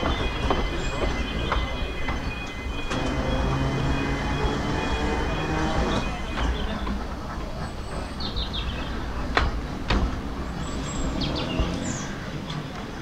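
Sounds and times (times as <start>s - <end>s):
birds chirping: 0.0s - 13.0s
tram rumbling on track: 0.0s - 13.0s.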